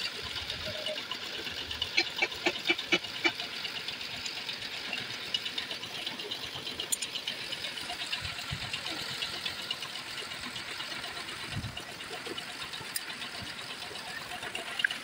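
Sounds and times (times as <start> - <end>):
diesel engine clattering: 0.0 - 15.0
fuel spraying: 0.0 - 15.0.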